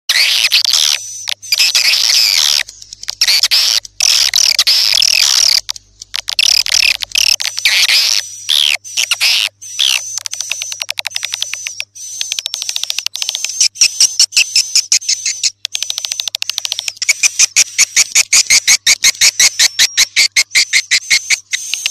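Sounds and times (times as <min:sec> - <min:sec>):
swiftlets twittering chirps: 0:00.1 - 0:21.9
rapid bird clicks: 0:00.2 - 0:21.9.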